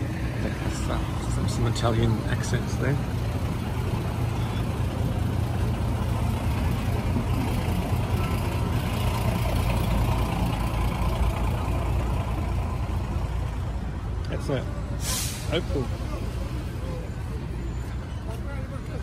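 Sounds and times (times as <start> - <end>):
vehicle engines humming: 0.0 - 19.0.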